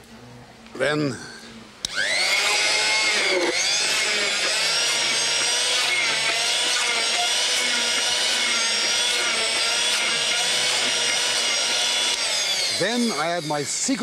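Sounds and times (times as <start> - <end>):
stick blender motor whine: 1.8 - 14.0.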